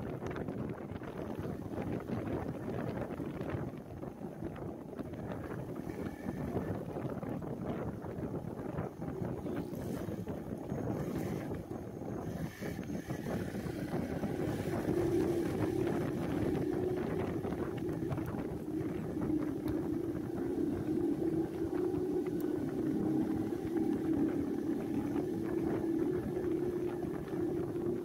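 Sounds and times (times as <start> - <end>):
motorboat engine running: 0.0 - 28.0
wind noise on microphone: 0.0 - 28.0.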